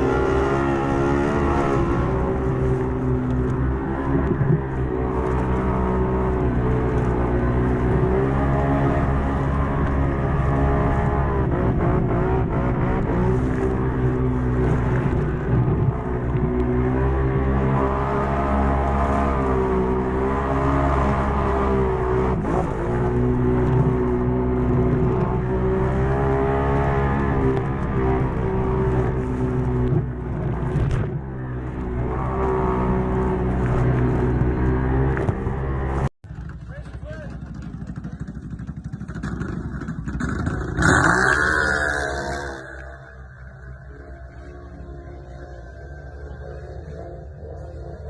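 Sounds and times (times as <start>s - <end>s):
quad bike engine revving: 0.0s - 48.0s.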